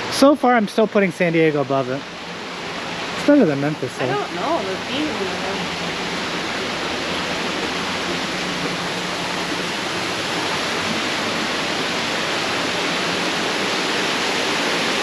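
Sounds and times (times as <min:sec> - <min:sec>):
steady rushing noise: 0:01.2 - 0:15.0.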